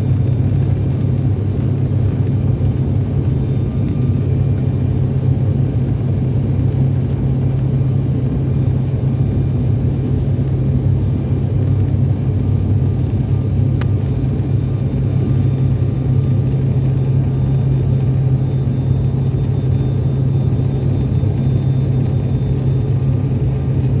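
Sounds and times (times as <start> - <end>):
airliner low rumble: 0.0 - 24.0.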